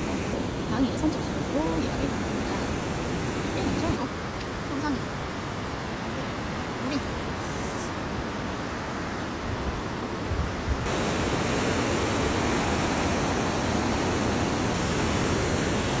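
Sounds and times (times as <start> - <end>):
stream rushing over rocks: 0.0 - 16.0.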